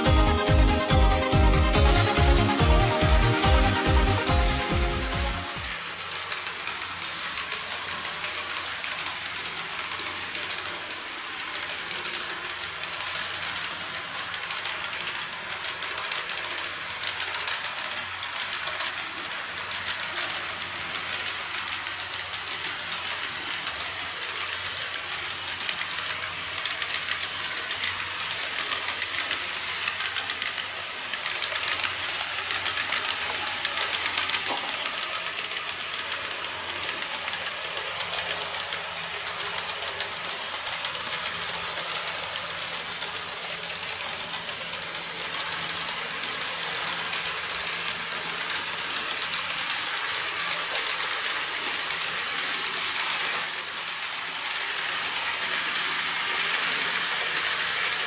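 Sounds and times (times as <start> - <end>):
wheels clicking over rails: 0.0 - 58.0
model train whirring: 1.8 - 58.0.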